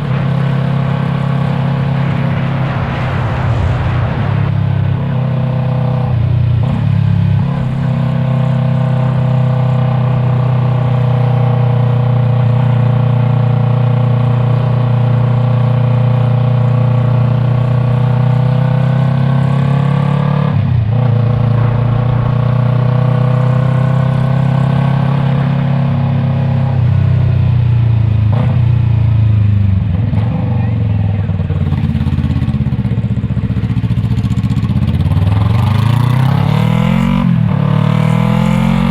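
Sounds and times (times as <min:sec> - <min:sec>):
motorcycle engine running: 0:05.1 - 0:38.9.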